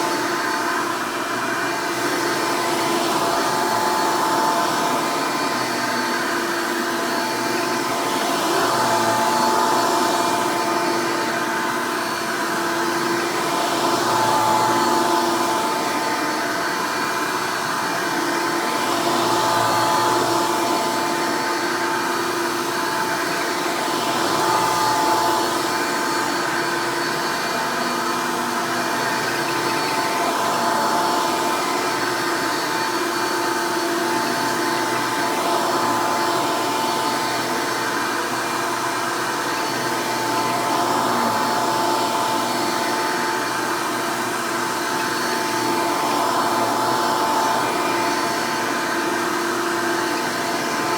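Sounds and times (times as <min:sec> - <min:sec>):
vacuum cleaner motor whining: 0:00.0 - 0:50.9.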